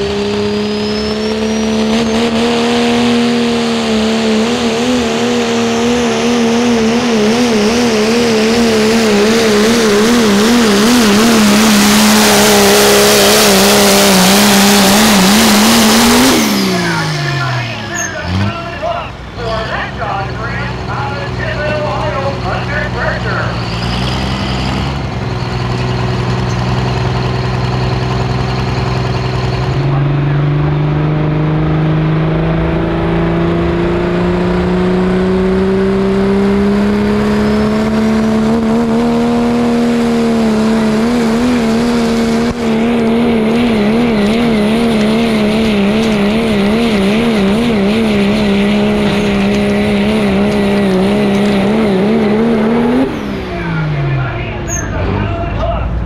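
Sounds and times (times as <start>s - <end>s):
pickup truck engine revving: 0.0s - 56.0s.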